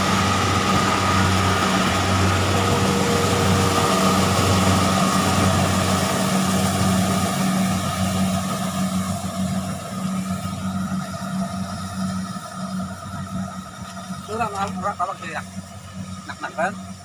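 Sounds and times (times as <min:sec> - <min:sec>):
engine humming with high whine: 0:00.0 - 0:17.0.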